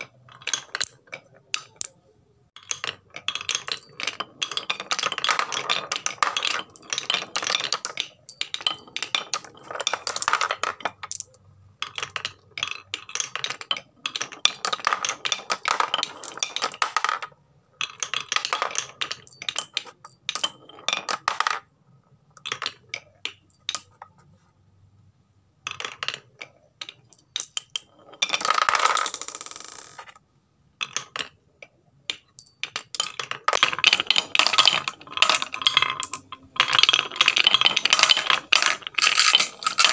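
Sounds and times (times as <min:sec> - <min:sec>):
marbles rolling down wooden track: 0:00.0 - 0:02.0, 0:02.6 - 0:21.7, 0:22.4 - 0:24.0, 0:25.6 - 0:30.2, 0:32.0 - 0:39.9.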